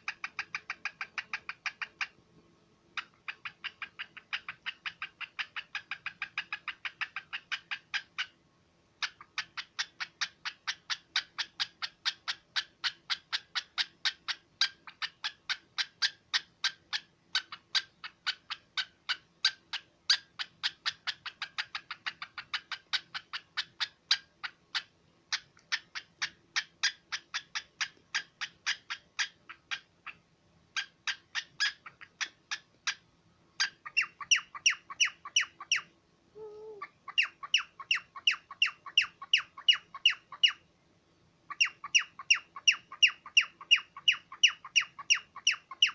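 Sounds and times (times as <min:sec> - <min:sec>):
cockatiel chirping: 0:00.0 - 0:02.2, 0:03.0 - 0:08.4, 0:09.0 - 0:40.7, 0:41.5 - 0:45.9.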